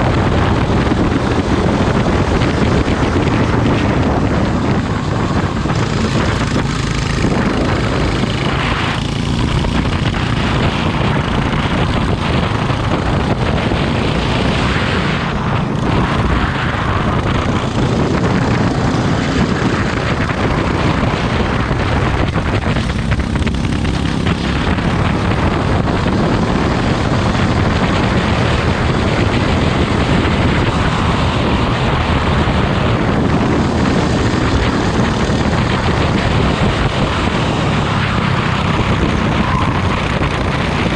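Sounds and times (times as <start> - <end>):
loud wind noise: 0.0 - 40.9
racing kart engine: 0.0 - 40.9.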